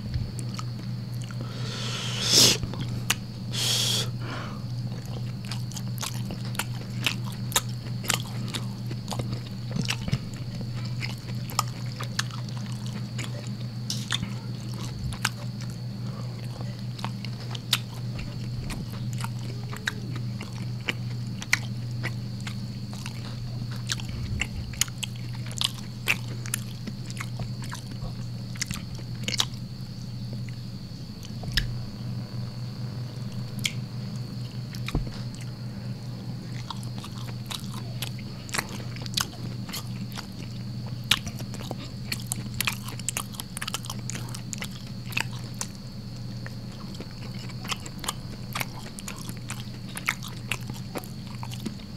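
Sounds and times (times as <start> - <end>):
low electrical hum: 0.0 - 51.9
person chewing: 0.4 - 4.2, 4.8 - 29.6, 33.2 - 51.9.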